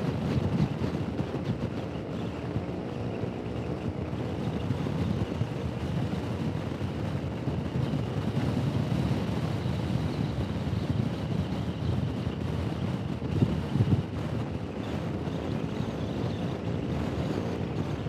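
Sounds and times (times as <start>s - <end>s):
road noise: 0.0s - 18.0s
wind rush: 0.0s - 18.0s.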